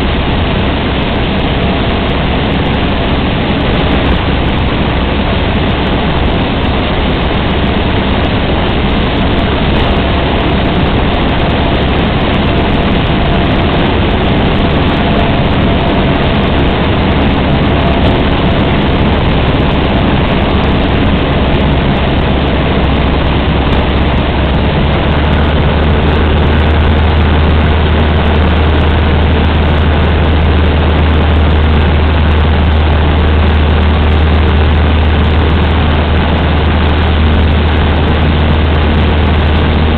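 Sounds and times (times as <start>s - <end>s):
airplane engine droning in flight: 0.0s - 39.9s.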